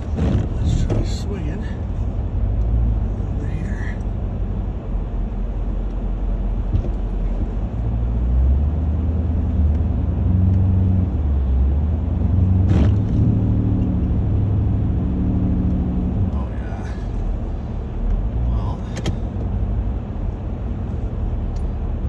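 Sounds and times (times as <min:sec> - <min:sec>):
car engine revving under load: 0:00.0 - 0:22.0.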